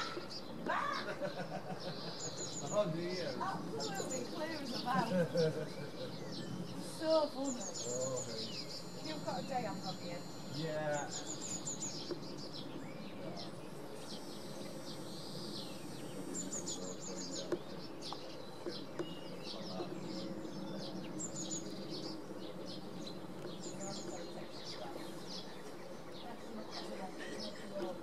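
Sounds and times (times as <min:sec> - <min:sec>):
high bird trills: 0:00.0 - 0:28.0
small birds chirping: 0:00.0 - 0:28.0
steady low hum: 0:00.0 - 0:28.0.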